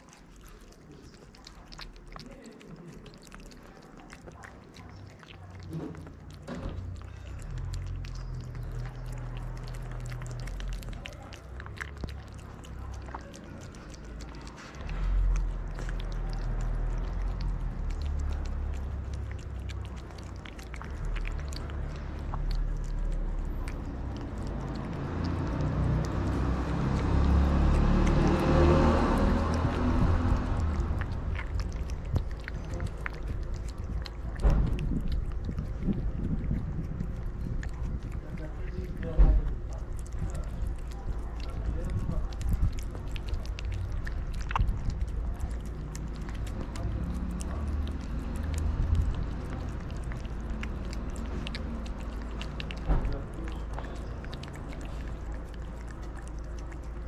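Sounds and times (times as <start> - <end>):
cats chewing and lapping: 0.0 - 57.0
steady low rumble: 0.0 - 57.0.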